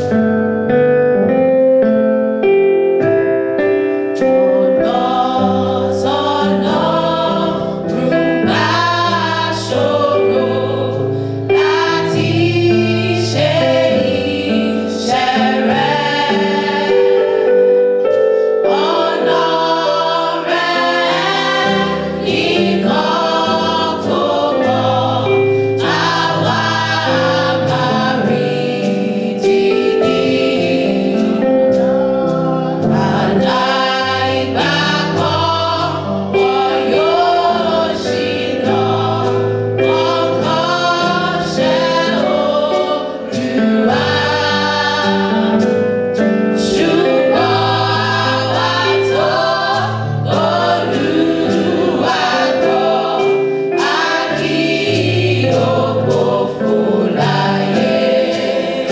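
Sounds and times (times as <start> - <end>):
held instrumental notes: 0.0 - 58.9
gospel choir singing: 4.1 - 58.9.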